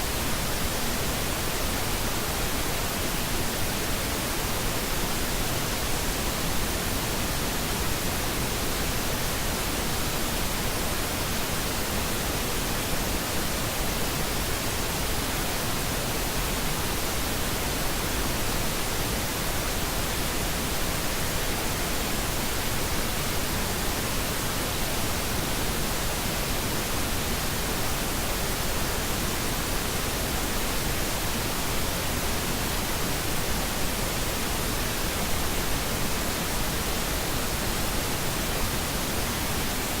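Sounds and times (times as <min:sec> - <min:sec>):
steady pink noise hiss: 0:00.0 - 0:40.0.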